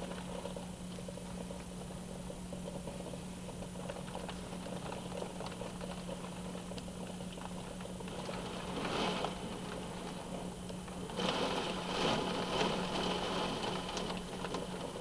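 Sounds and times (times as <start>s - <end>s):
heavy rain pattering: 2.6s - 15.0s.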